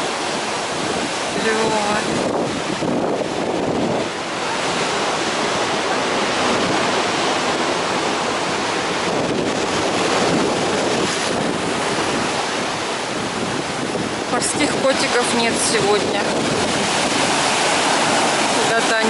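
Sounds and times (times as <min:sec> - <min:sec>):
surf breaking over rocks: 0:00.0 - 0:19.0
wind buffeting microphone: 0:00.0 - 0:19.0.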